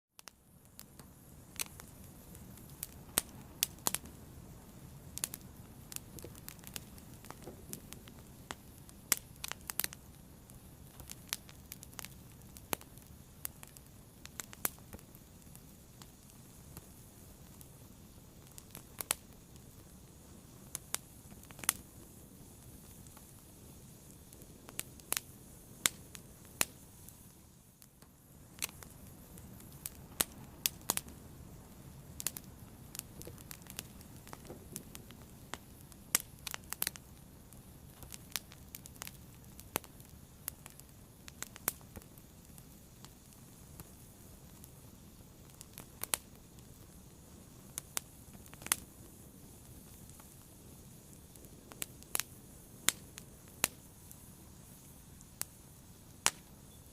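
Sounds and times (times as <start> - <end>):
fire crackling and popping: 0.2 - 56.9
fire rushing hiss: 0.4 - 56.9.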